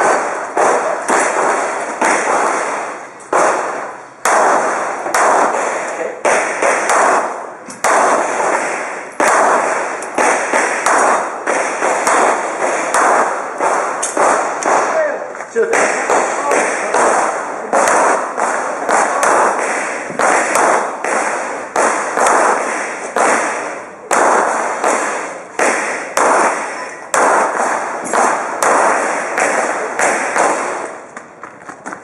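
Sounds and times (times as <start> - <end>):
pistol shots echoing: 0.0 - 31.2.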